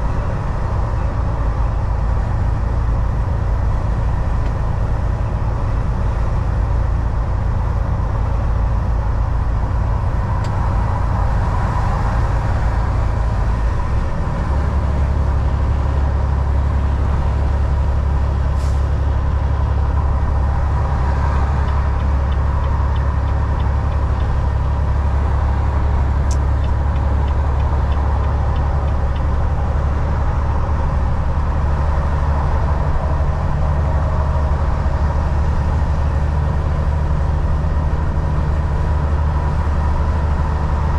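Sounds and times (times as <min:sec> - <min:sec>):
truck diesel engine droning: 0:00.0 - 0:40.9
tyre and road noise: 0:00.0 - 0:40.9.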